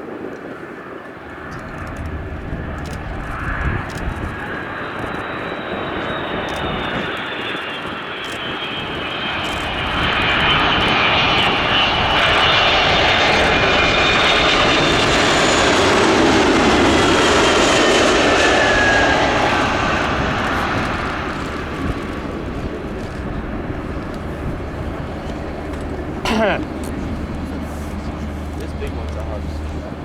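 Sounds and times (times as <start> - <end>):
jet flying past: 0.0 - 30.0.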